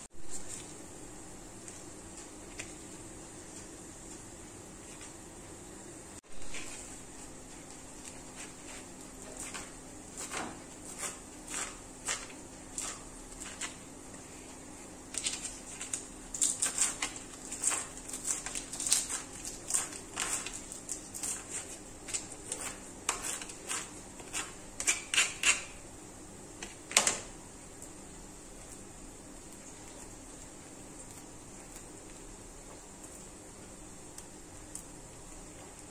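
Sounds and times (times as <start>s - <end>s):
faint hum: 0.0s - 35.9s.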